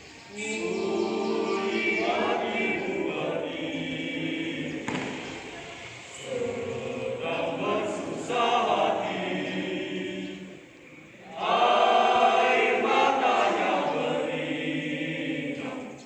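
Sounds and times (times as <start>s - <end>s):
troop chanting in unison: 0.3s - 5.5s, 6.2s - 16.0s.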